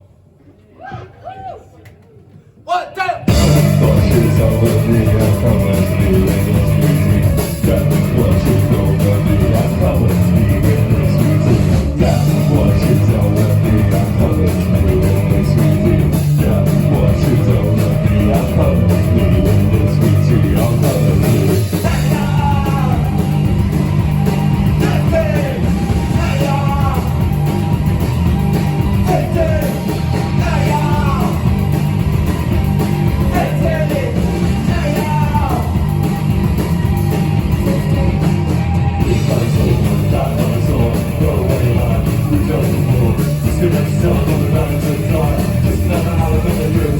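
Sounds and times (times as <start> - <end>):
person singing: 3.3 - 27.7, 28.3 - 31.7, 32.6 - 46.9
live rock band playing: 3.3 - 46.9.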